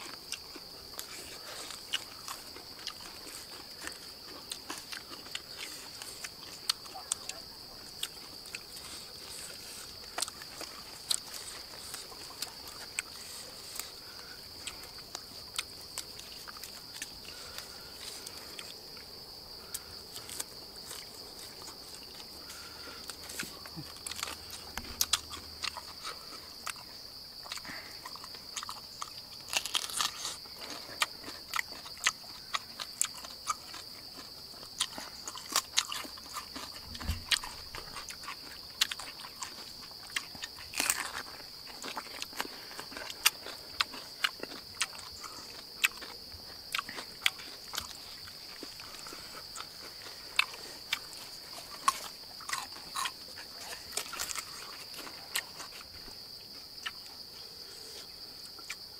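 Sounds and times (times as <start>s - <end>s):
chewing and crunching: 0.0s - 58.9s.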